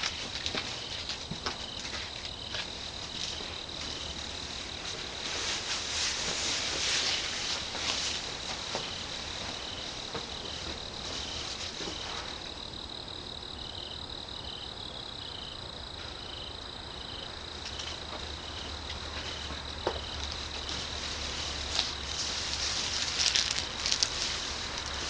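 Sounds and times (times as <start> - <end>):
insects trilling: 0.0 - 25.0
pulsing insect chirp: 0.0 - 25.0.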